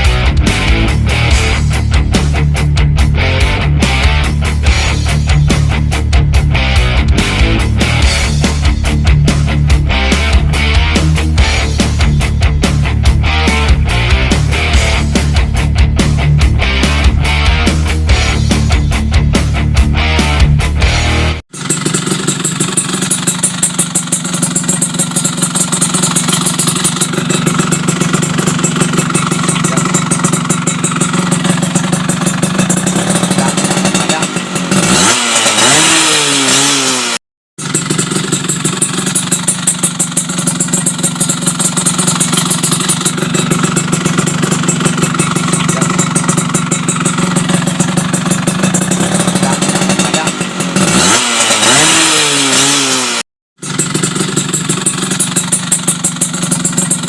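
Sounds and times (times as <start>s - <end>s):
two-stroke engine idling: 0.0s - 19.2s, 20.2s - 57.0s
engine revving: 0.0s - 57.0s.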